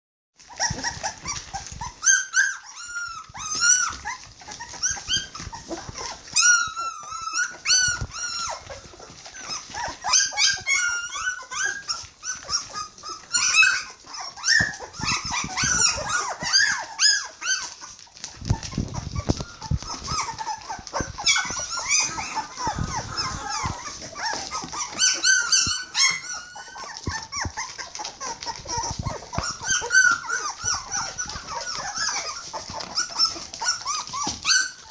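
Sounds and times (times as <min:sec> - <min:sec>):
puppies whining and squealing: 0:00.4 - 0:34.9.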